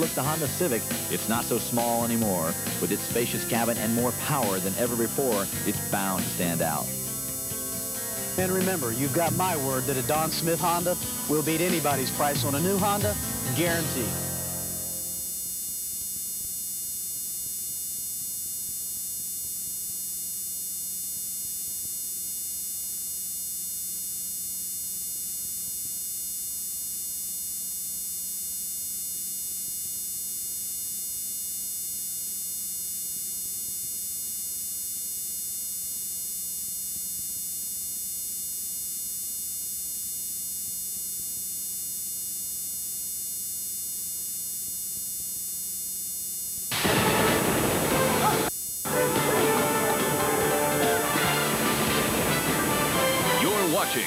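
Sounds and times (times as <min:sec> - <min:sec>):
faint high-pitched whine and hiss: 0:00.0 - 0:54.0
steady electrical hum: 0:00.0 - 0:54.0.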